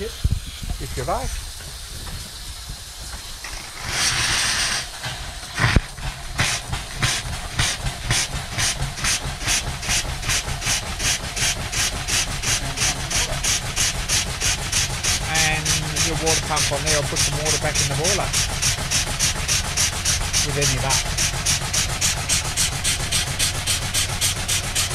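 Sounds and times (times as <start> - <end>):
steam engine exhaust chuffs: 0.0 - 24.9
steam hissing: 0.0 - 24.9.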